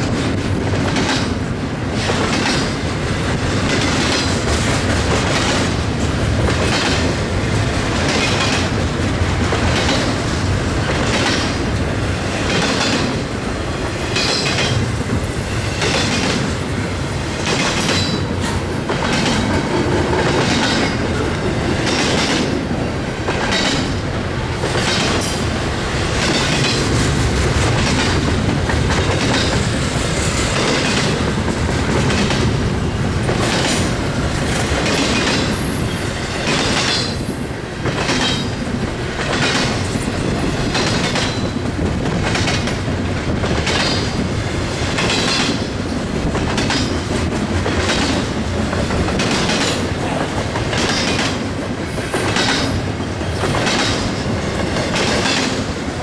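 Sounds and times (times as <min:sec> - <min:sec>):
train rumble: 0:00.0 - 0:56.0
train wheels clacking over rail joints: 0:00.0 - 0:56.0.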